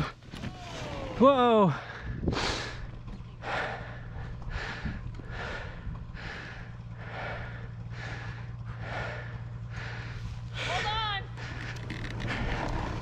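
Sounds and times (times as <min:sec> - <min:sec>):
steady low rumble: 0:00.0 - 0:13.0
person breathing hard: 0:01.7 - 0:12.7.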